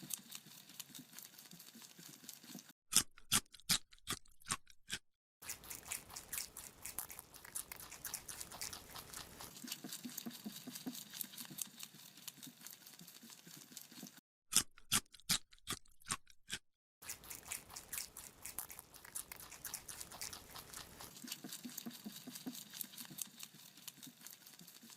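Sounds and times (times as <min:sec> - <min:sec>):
rabbit crunching carrot: 0:00.0 - 0:24.9.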